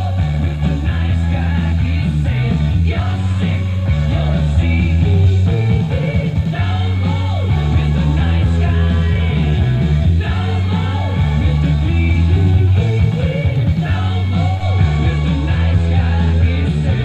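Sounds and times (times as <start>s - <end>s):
rock music from radio loudspeaker: 0.0s - 17.0s.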